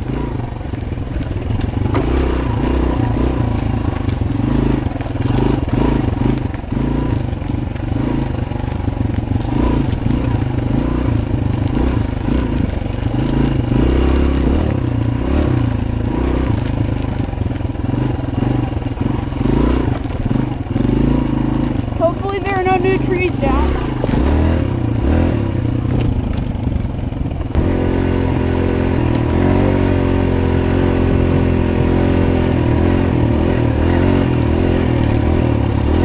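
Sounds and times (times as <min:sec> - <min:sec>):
dirt bike engine running: 0:00.0 - 0:36.0.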